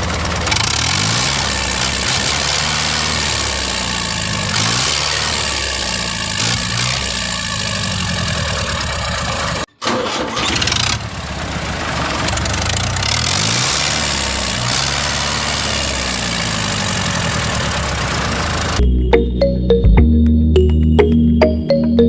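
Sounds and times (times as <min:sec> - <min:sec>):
mini tractor engine running: 0:00.0 - 0:18.8.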